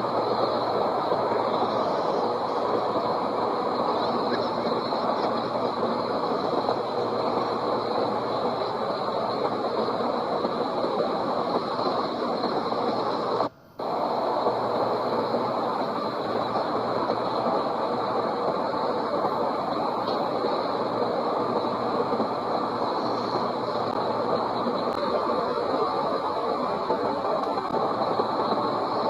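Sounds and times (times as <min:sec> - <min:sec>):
fireworks crackling and rumbling: 0:00.0 - 0:29.0.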